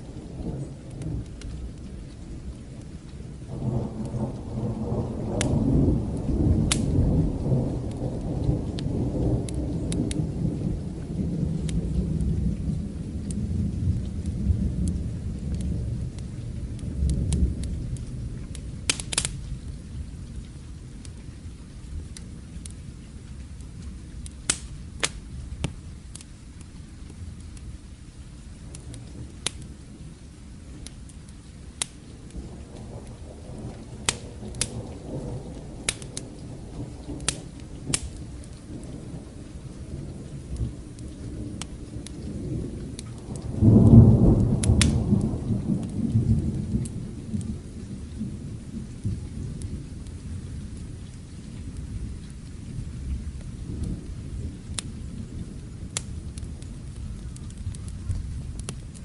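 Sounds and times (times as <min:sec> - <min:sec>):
steady rain: 0:00.0 - 0:59.0
thunder rumbling: 0:00.0 - 0:59.0
wood fire crackling: 0:00.0 - 0:59.0.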